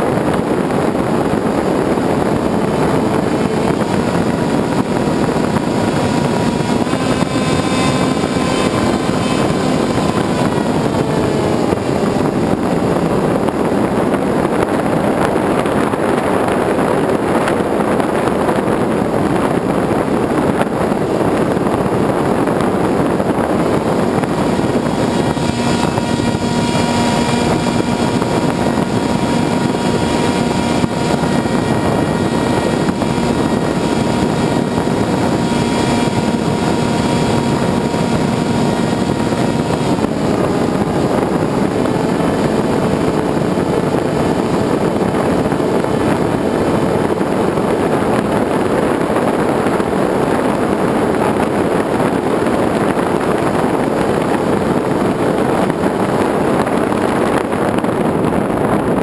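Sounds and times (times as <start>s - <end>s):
electric motor whine: 0.0s - 58.7s
loud rushing air: 0.0s - 59.0s.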